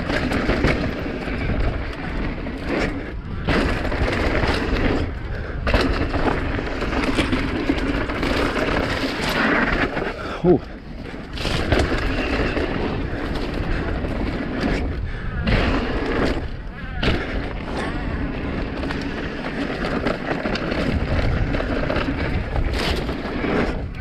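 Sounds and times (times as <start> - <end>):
camera rattle: 0.0 - 10.2, 11.0 - 24.0
mountain bike rolling on dirt: 0.0 - 24.0
wind rush on microphone: 0.0 - 24.0.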